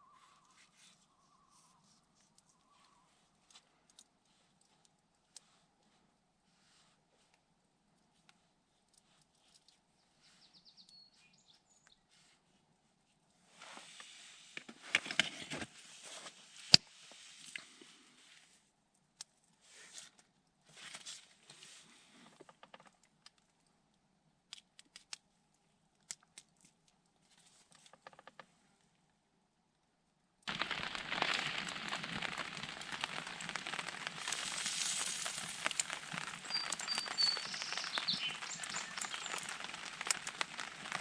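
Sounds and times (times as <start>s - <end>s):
rustling and crinkling: 0.0s - 10.4s, 12.1s - 18.6s, 19.3s - 23.6s, 26.1s - 28.8s, 30.5s - 41.0s.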